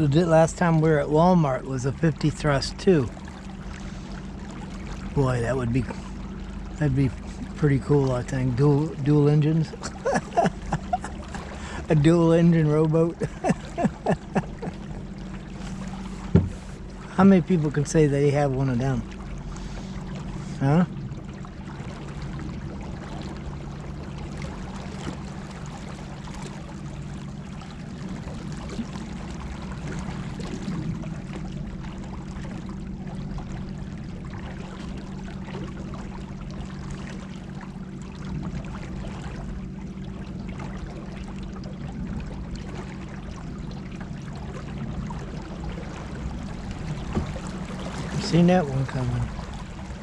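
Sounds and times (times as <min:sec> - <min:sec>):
water rushing along boat hull: 0:00.0 - 0:50.0.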